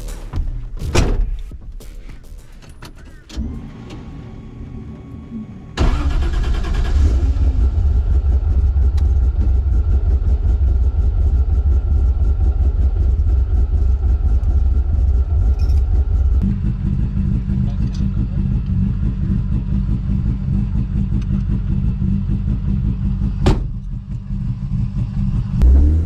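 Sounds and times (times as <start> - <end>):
car engine starting and idling: 2.4 - 26.0.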